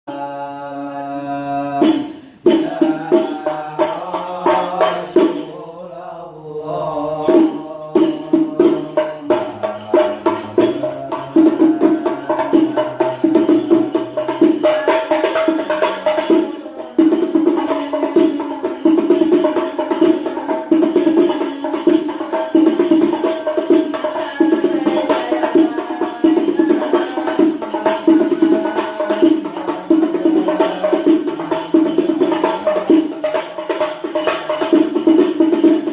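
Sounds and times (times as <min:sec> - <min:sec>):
frame drums struck by hand: 0:01.8 - 0:05.6, 0:07.2 - 0:35.9.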